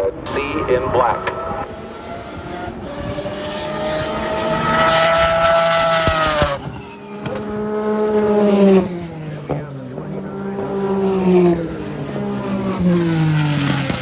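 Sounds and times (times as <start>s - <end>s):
race car engine passing: 0.0s - 14.0s.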